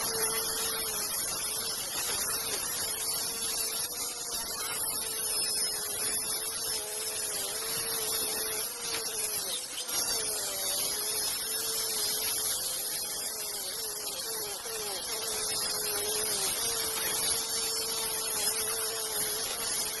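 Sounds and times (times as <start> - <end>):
electric saw ripping wood: 0.0 - 20.0.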